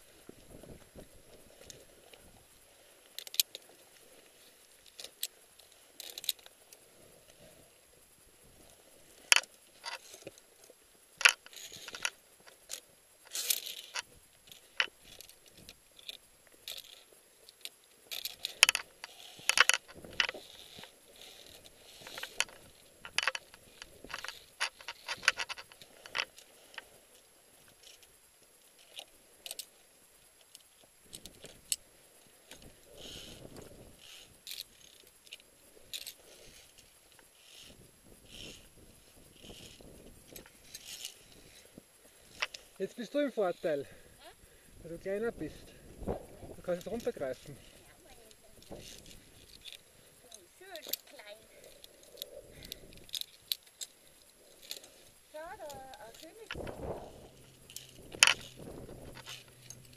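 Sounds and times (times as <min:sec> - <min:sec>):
climbing gear clinking on steel cable: 0:00.0 - 0:59.9.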